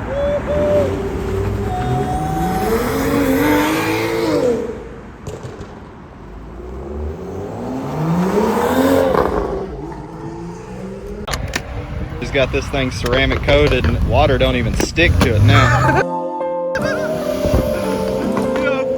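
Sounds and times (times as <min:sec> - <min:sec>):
car engine accelerating: 0:00.0 - 0:05.6, 0:06.2 - 0:16.0, 0:16.8 - 0:18.9.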